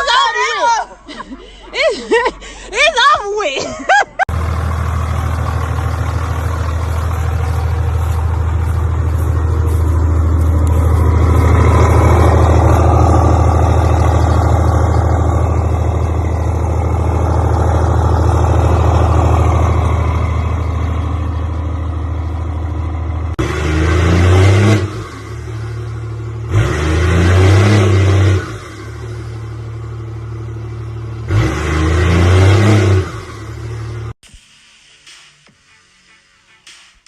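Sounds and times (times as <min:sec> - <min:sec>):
truck engine droning: 0:04.1 - 0:34.2.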